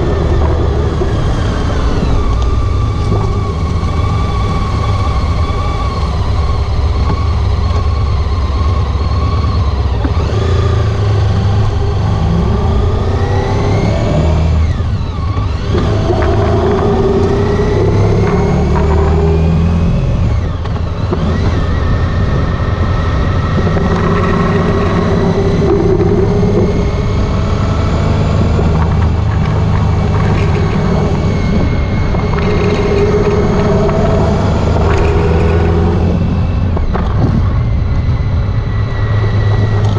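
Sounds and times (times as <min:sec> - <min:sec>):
heavy low rumble: 0:00.0 - 0:39.9
motorcycle engine accelerating: 0:00.0 - 0:39.9.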